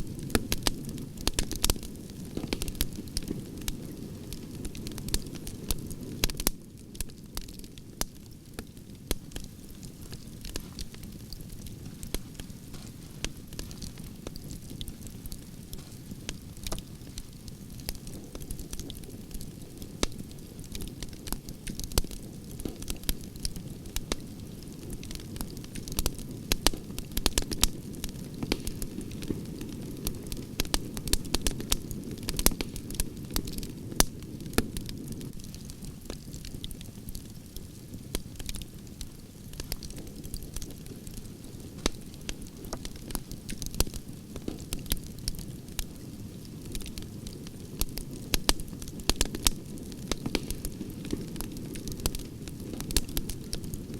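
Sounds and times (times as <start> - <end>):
campfire crackling and popping: 0.0 - 53.9
low rumble of flame: 0.0 - 53.9.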